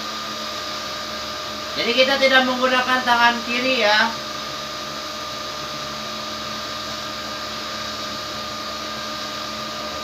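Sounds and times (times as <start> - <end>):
cotton candy machine whirring: 0.0 - 10.0.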